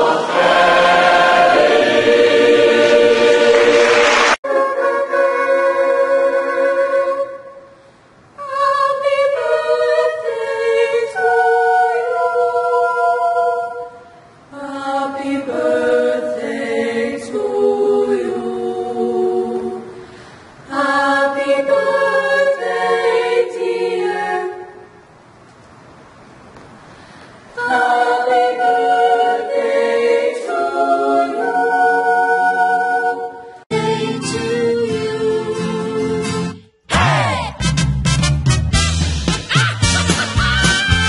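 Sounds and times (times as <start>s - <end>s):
women's choir singing a cappella: 0.0s - 7.8s, 8.4s - 25.0s, 27.6s - 36.2s.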